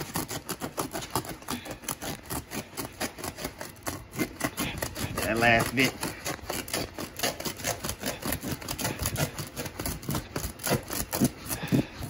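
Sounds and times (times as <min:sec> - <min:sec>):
knife slicing through carpet: 0:00.0 - 0:12.0.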